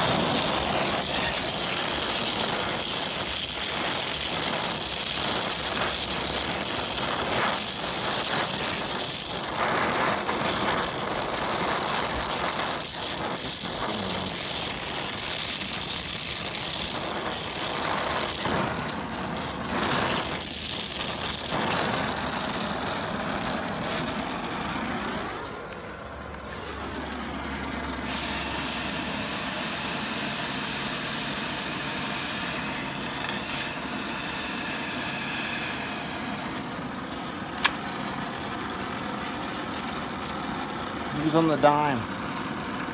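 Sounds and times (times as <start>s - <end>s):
torch flame hissing: 0.0s - 42.9s.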